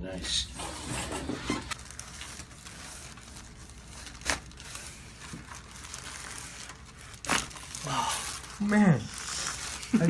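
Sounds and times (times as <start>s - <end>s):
rustling and crinkling on table: 0.6s - 10.0s.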